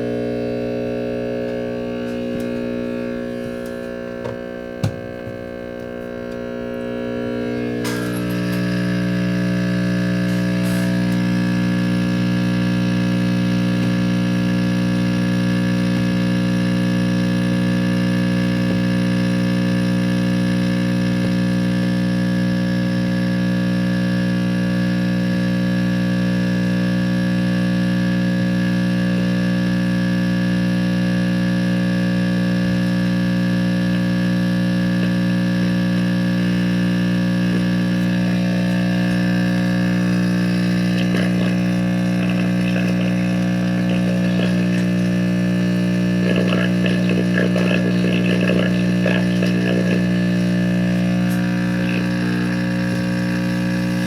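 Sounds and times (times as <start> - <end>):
radio mains hum: 0.0 - 23.4, 32.4 - 54.0.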